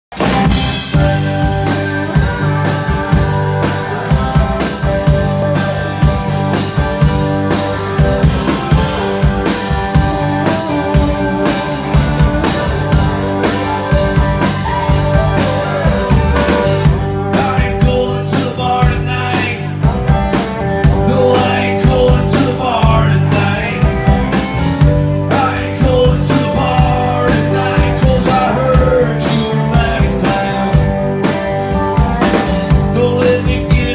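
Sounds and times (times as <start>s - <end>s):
acoustic guitar: 0.1s - 33.9s
drum kit: 0.1s - 33.9s
keyboard: 0.1s - 33.9s.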